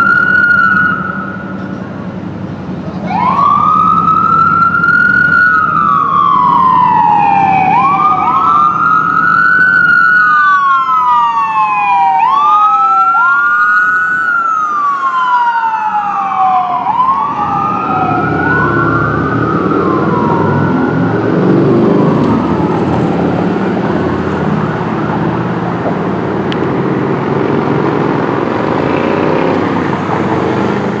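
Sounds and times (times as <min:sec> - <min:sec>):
emergency vehicle siren wailing: 0:00.0 - 0:31.0
loud engine and traffic noise: 0:00.0 - 0:31.0.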